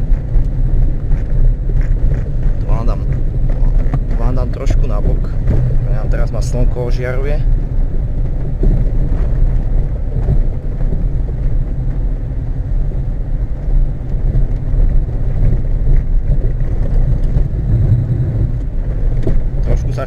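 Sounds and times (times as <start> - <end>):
diesel car engine running: 0.0 - 20.0
tyre and road rumble: 0.0 - 20.0.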